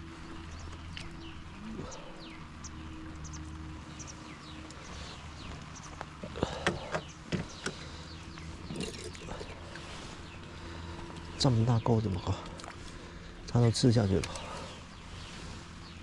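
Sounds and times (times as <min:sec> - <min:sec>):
birds chirping: 0:00.0 - 0:16.0
low steady hum: 0:00.0 - 0:16.0.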